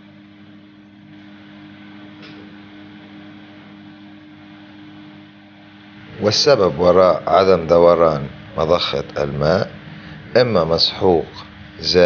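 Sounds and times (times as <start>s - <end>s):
washing machine drain pump humming: 0.0s - 12.0s.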